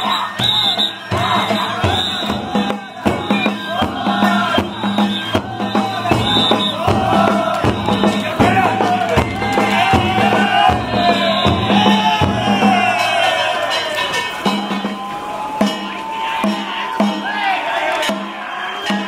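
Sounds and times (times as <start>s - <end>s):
crowd calling and chanting: 0.0s - 19.0s
drum beats: 0.0s - 19.0s.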